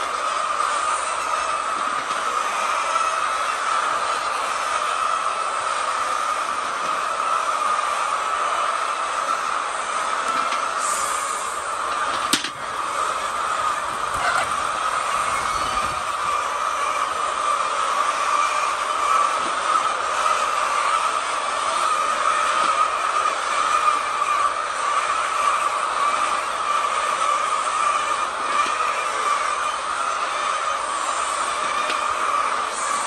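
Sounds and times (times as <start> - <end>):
hens clucking and squawking: 0.0 - 33.0.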